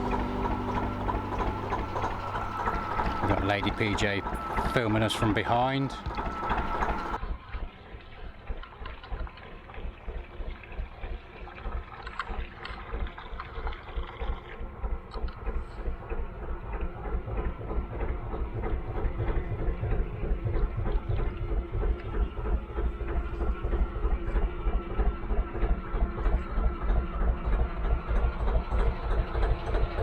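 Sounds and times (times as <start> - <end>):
diesel boat engine running: 0.0 - 7.2, 9.4 - 30.0.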